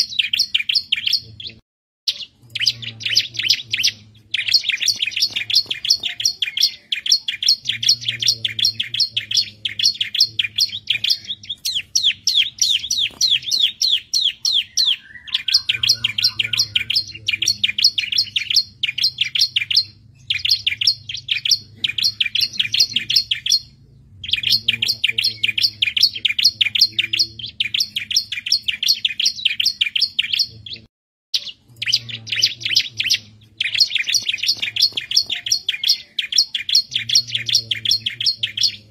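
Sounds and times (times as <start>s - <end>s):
bird rapid high chirping song: 0.0s - 38.9s.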